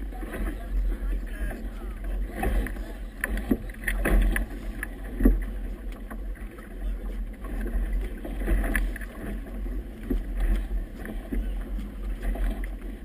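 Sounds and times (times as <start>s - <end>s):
choppy water against boat: 0.0s - 13.0s.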